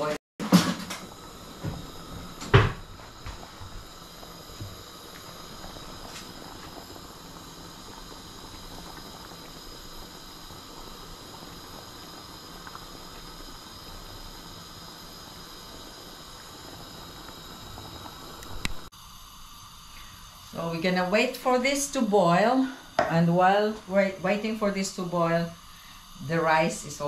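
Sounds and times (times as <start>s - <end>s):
pot of rice boiling: 0.0s - 27.0s.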